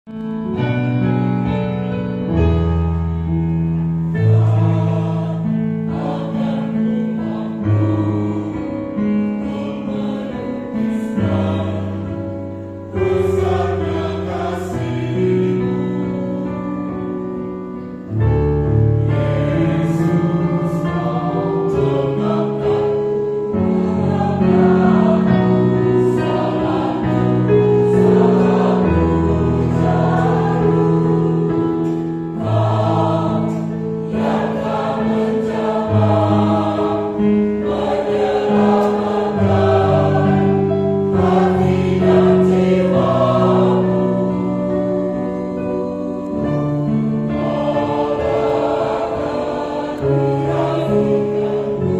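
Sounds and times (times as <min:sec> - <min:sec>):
choir singing a hymn: 0:00.4 - 0:51.9.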